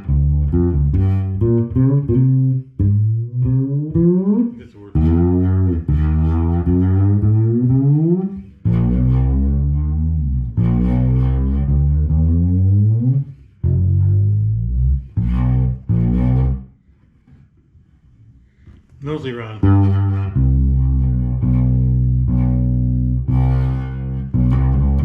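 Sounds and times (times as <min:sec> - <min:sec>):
bass guitar notes sliding: 0:00.0 - 0:16.8, 0:19.6 - 0:25.0
string buzz: 0:00.0 - 0:17.4, 0:18.5 - 0:25.0.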